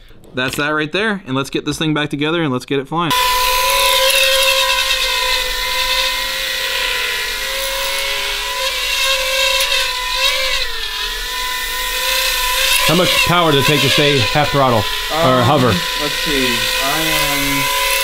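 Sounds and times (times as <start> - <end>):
quadcopter propeller whine: 3.1 - 18.0.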